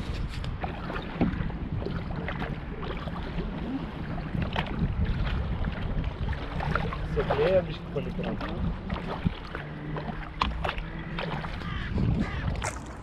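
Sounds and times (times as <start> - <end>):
paddle splashes: 0.0 - 13.0
wind on microphone: 0.0 - 13.0.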